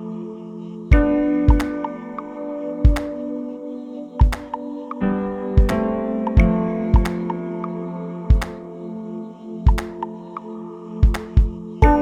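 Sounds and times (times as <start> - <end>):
ambient music over a beat: 0.9 - 12.0.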